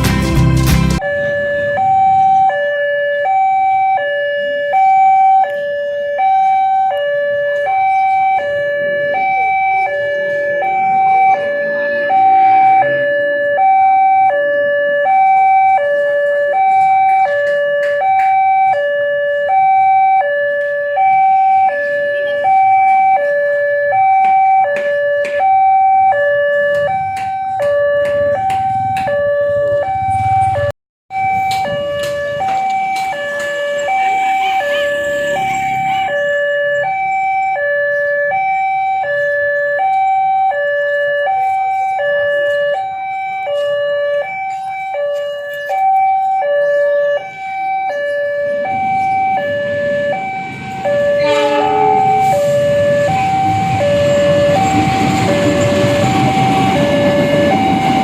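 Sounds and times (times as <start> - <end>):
level crossing alarm two-tone: 1.0 - 58.0.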